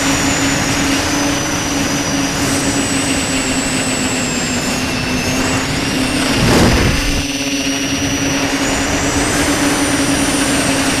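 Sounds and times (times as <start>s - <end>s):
electric motors and propellers whining: 0.0s - 11.0s.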